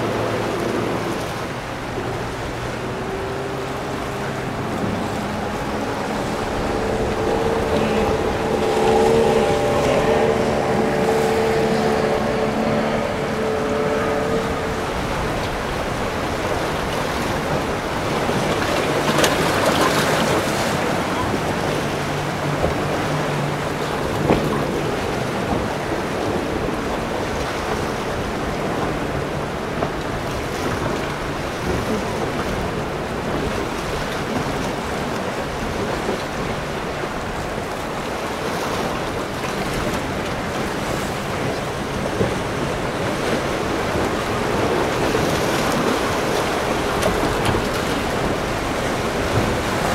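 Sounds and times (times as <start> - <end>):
motorboat engines running: 0.0 - 49.9
waves rushing: 0.0 - 49.9
wind: 0.0 - 49.9.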